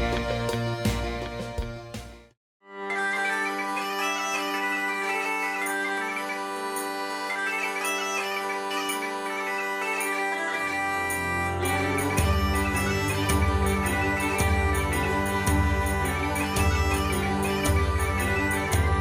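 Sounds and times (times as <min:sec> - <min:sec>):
bagpipes playing a melody: 0:00.0 - 0:02.0, 0:02.7 - 0:19.0.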